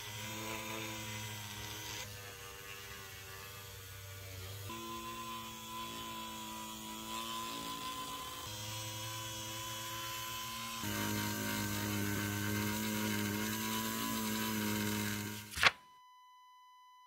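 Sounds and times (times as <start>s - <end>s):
rotary tool sanding leather: 0.0s - 15.6s.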